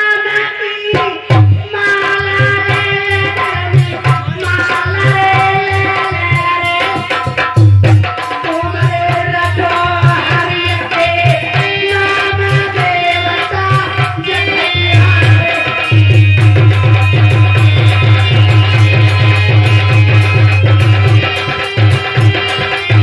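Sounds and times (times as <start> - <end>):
woman singing: 0.0 - 7.4, 8.3 - 23.0
harmonium playing: 0.0 - 23.0
hand drum beat: 2.3 - 23.0.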